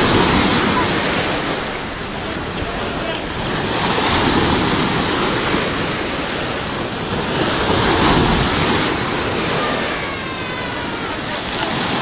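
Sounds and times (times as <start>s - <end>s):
sea waves breaking: 0.0s - 12.0s.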